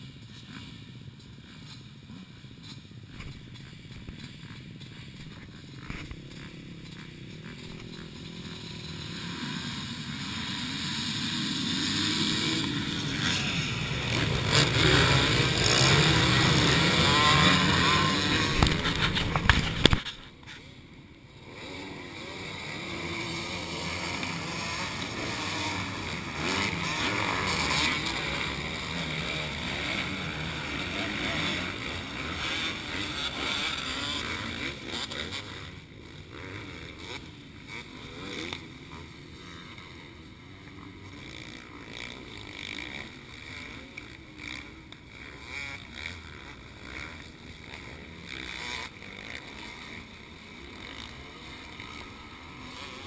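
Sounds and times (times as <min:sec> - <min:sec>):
distant motocross engines revving: 0:00.0 - 0:53.0.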